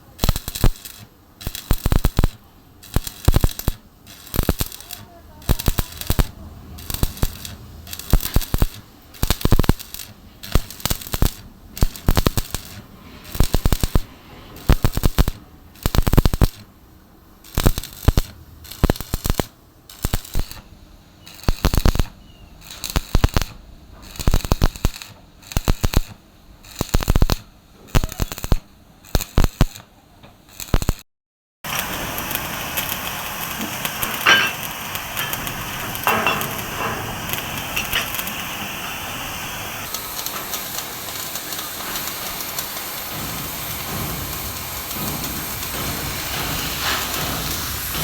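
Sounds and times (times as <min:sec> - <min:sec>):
arc welding crackling: 0:00.0 - 0:16.7, 0:17.4 - 0:31.0, 0:31.7 - 0:48.0.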